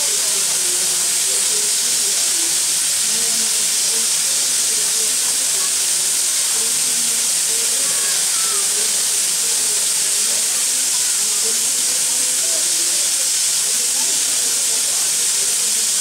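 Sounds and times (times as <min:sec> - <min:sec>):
faint voices: 0:00.0 - 0:16.0
steam hissing from locomotive: 0:00.0 - 0:16.0.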